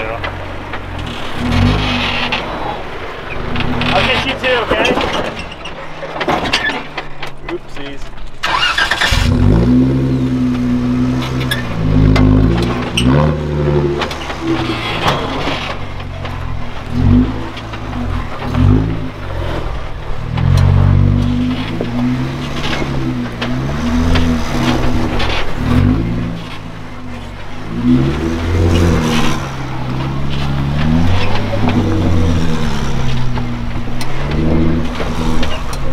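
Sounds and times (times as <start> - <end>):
car engine revving: 0.0 - 7.5, 8.3 - 35.9.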